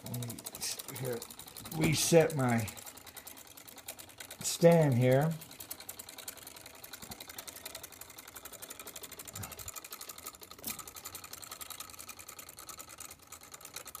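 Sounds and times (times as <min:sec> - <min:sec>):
pulse motor rapid clicking: 0:00.0 - 0:14.0.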